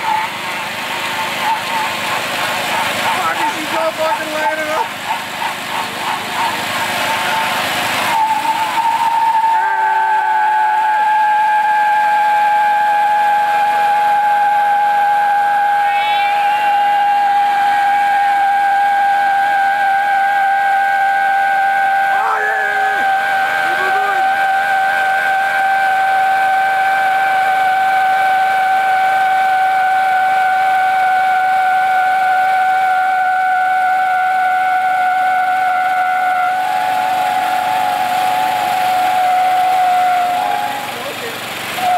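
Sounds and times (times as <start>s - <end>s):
mower engine running: 0.0s - 41.9s
tires squealing: 0.0s - 41.9s.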